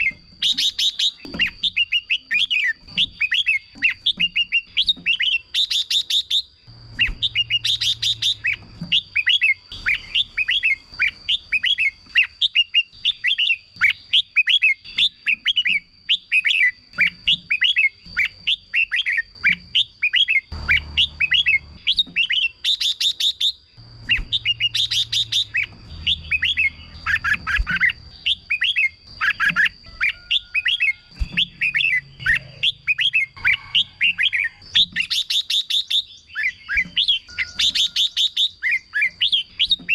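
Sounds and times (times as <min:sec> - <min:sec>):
bulbuls singing whistled notes: 0:00.0 - 0:39.9
dry bird trills: 0:00.0 - 0:39.9.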